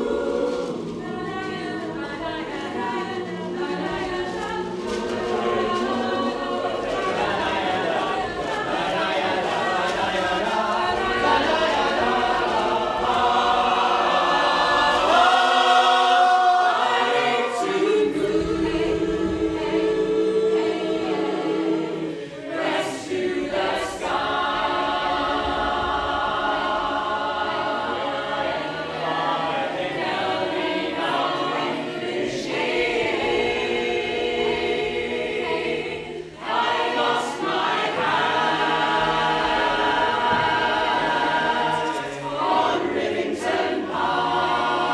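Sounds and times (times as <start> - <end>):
choir singing held chords: 0.0 - 44.9.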